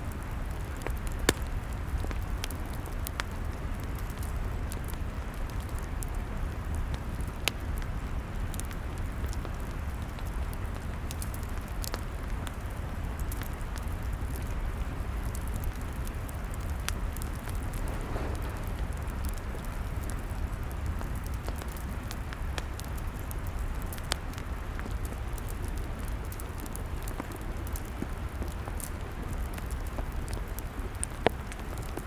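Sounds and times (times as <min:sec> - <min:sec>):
log fire burning: 0:00.1 - 0:32.0
wood crackling and popping: 0:00.1 - 0:32.0.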